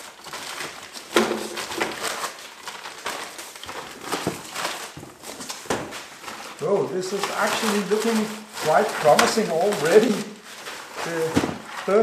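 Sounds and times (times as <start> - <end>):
items knocking and clicking: 0.0 - 12.0
packaging rustling and crinkling: 0.0 - 12.0.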